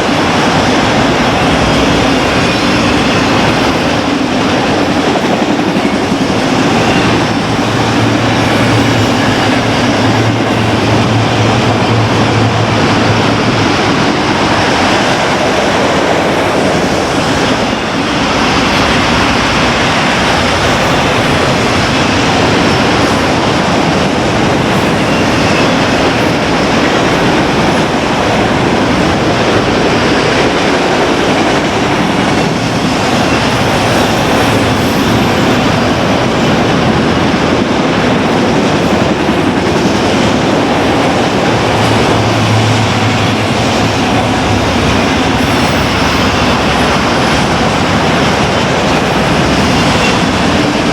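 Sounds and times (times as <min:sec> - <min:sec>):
freight train wheels rumbling on rail: 0:00.0 - 0:50.9.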